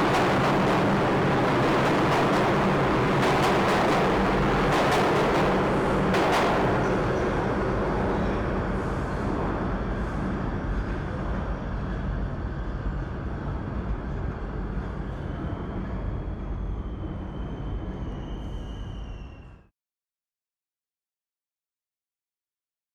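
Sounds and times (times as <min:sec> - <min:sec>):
subway train rumble and rail noise: 0:00.0 - 0:19.7.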